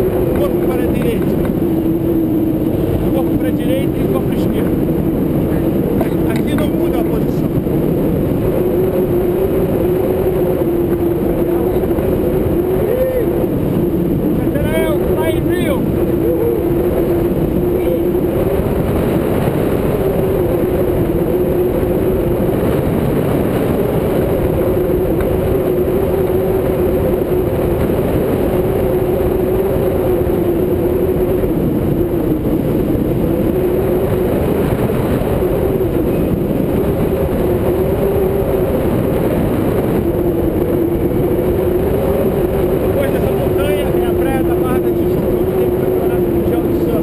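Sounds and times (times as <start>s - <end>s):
wind rushing over camera: 0.0s - 47.0s.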